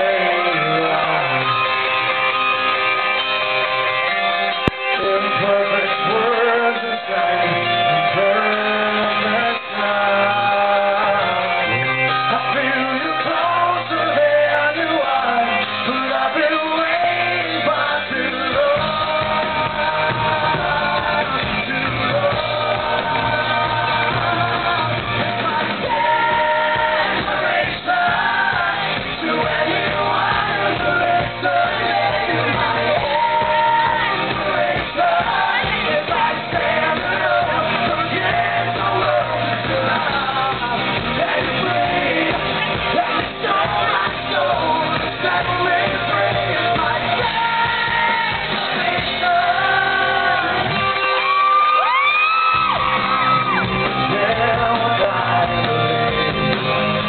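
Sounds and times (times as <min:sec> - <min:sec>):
man singing: 0:00.0 - 0:01.9, 0:04.7 - 0:51.9, 0:52.5 - 0:56.2
drums: 0:00.0 - 0:57.0
electric guitar: 0:00.0 - 0:57.0.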